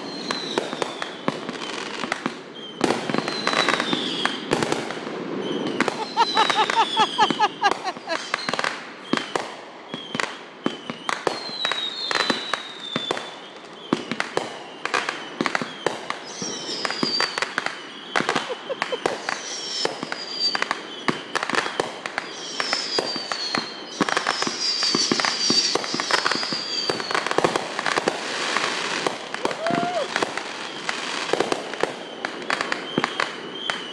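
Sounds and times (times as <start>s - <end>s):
fireworks bangs and crackles: 0.0s - 33.9s
high falling firework whistles: 0.0s - 33.9s.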